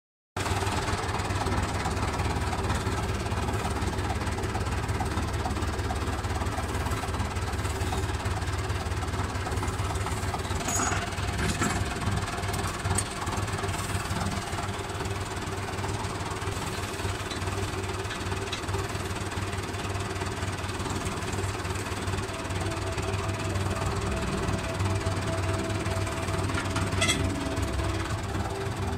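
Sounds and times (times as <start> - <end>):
tractor diesel engine running: 0.4 - 28.9.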